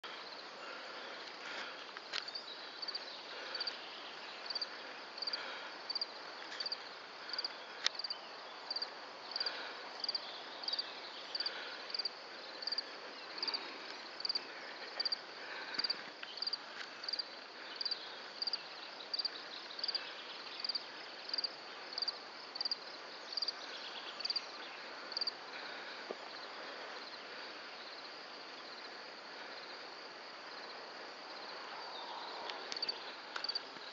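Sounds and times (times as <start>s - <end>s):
faint open-air hiss: 0.0s - 33.9s.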